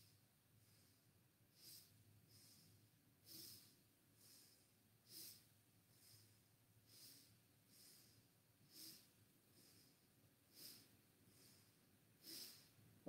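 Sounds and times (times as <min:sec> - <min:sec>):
soft hissy breathing: 0:00.0 - 0:13.0.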